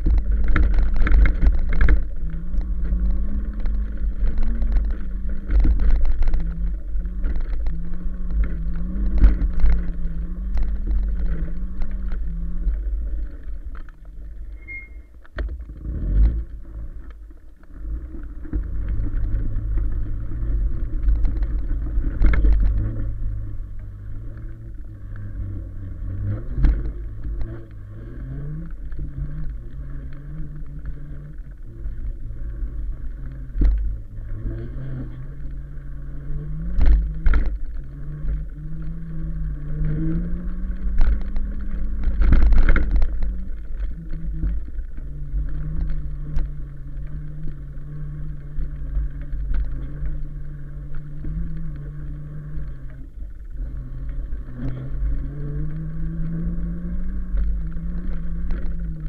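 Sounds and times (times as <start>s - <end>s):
constant low rumble: 0.0s - 59.0s.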